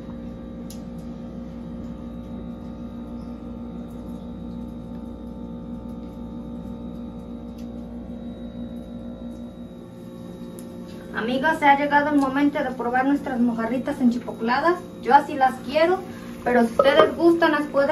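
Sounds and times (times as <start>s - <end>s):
hum of held tones: 0.0s - 17.9s.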